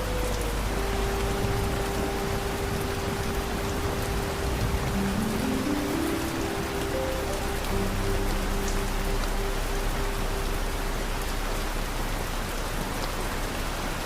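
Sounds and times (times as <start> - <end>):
low sustained music notes: 0.0 - 14.0
rain falling: 0.0 - 14.0
water drips: 0.0 - 14.0.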